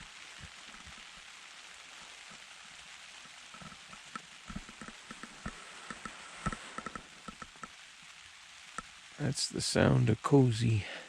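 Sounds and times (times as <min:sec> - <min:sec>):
rain hissing on a tent: 0:00.0 - 0:11.0.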